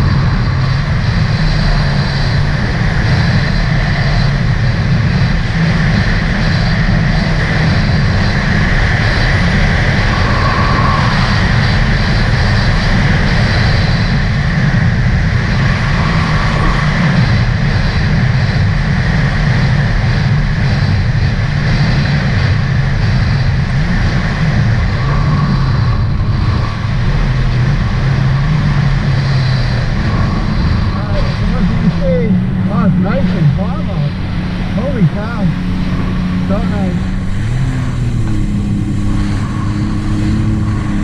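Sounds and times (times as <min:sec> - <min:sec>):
water and wind rushing: 0:00.0 - 0:41.0
watercraft engine droning: 0:00.0 - 0:41.0.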